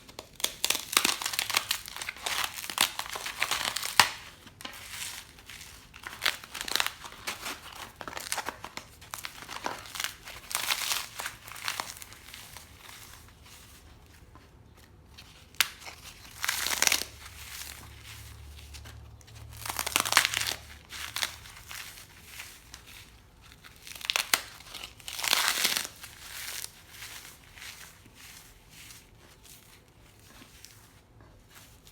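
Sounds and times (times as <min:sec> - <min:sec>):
floral foam crunching: 0:00.0 - 0:14.4, 0:15.1 - 0:31.9.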